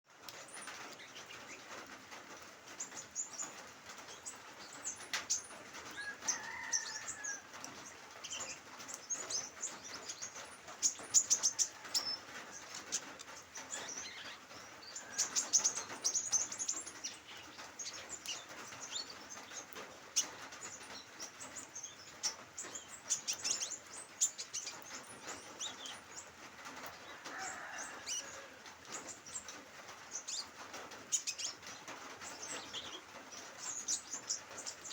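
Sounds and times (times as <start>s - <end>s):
light drizzle pattering: 0.1s - 34.9s
birds twittering: 0.3s - 34.9s.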